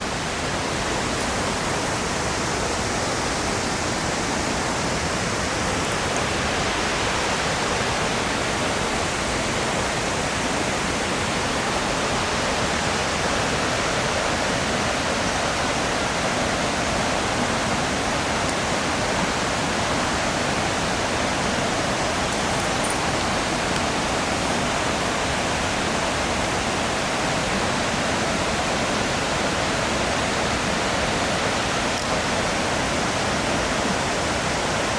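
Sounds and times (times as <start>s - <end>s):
waterfall roaring: 0.0s - 34.9s.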